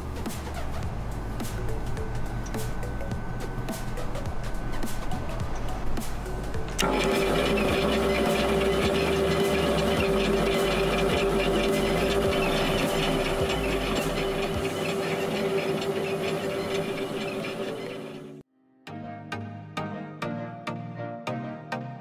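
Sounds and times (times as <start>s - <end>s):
mill machine humming and whining: 0.0s - 18.4s.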